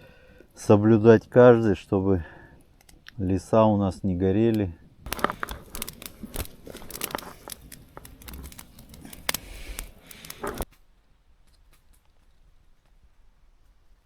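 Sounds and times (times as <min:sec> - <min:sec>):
campfire crackling: 0:00.0 - 0:12.4.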